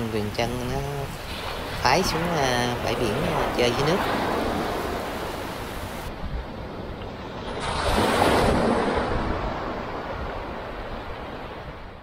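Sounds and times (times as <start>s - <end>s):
sea waves washing onto beach: 0.0s - 12.0s
wind rumbling on microphone: 0.0s - 12.0s.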